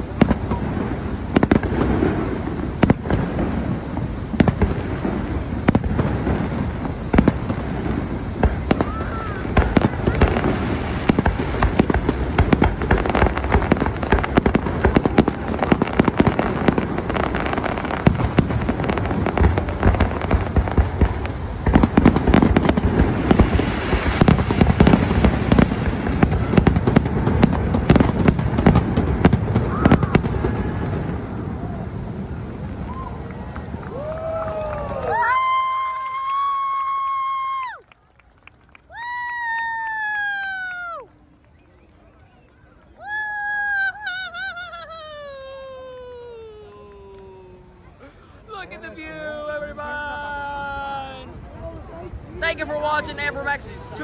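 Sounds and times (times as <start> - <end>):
fireworks booming and crackling: 0.0 - 37.9, 38.5 - 54.0.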